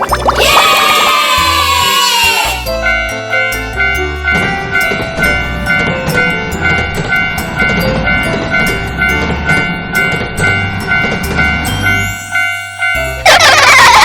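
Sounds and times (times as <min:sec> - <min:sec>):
level crossing bell clanging: 0:02.6 - 0:14.0.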